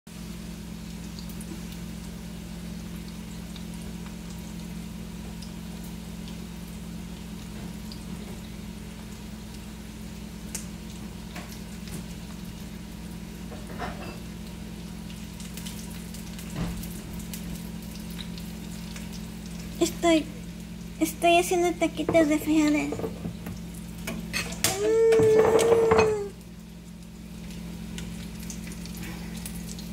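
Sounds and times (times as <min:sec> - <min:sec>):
food sizzling in a pan: 0:00.1 - 0:29.9.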